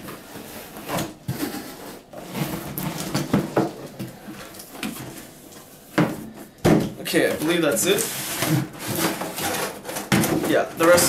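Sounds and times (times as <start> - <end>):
cardboard scraping and rustling: 0.0 - 11.0.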